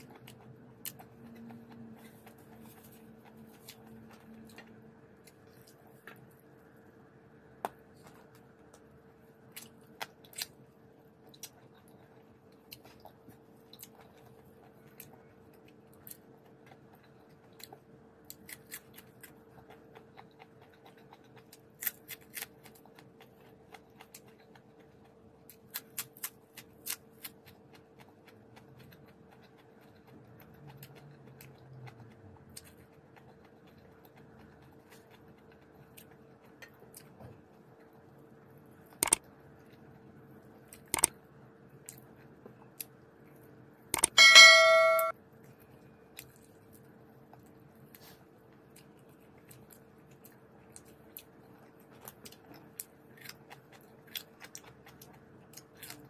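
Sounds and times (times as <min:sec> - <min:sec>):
crunchy vegetable chewing: 0:00.0 - 0:06.4, 0:07.6 - 0:43.0, 0:46.2 - 0:56.0
faint steady hum: 0:00.0 - 0:56.0.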